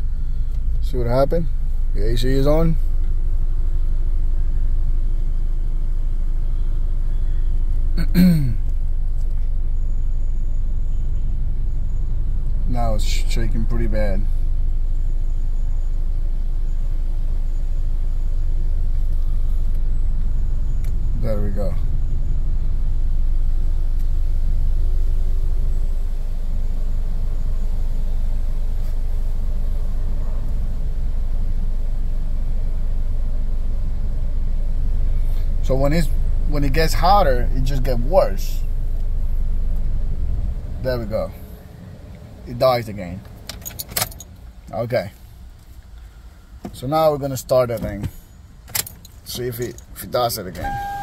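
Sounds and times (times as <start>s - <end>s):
car engine idling rough: 0.0s - 51.0s.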